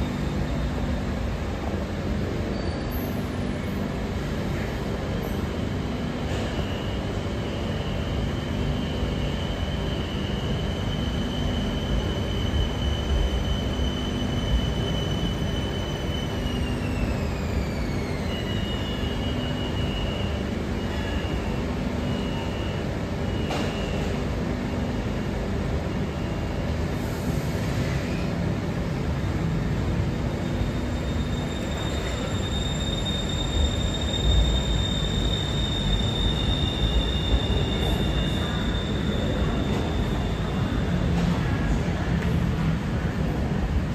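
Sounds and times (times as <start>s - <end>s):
train rumble: 0.0s - 43.9s.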